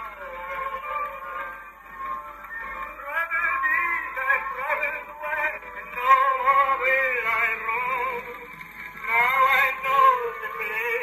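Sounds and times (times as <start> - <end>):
tinny gramophone singing: 0.0 - 11.0.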